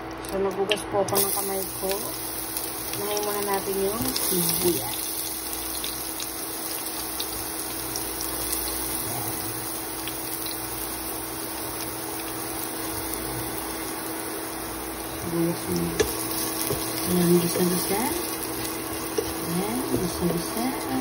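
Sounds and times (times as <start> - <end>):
steady low hum: 0.0 - 21.0
onion sizzling in hot oil: 0.2 - 21.0.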